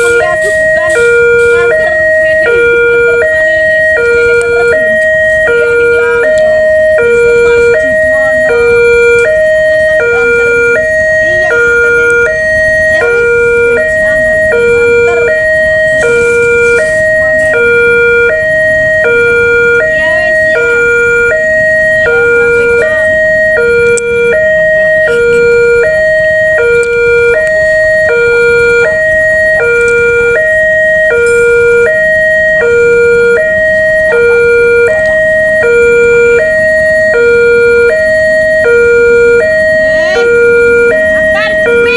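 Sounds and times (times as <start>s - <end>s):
two-note level crossing siren: 0.0s - 41.9s.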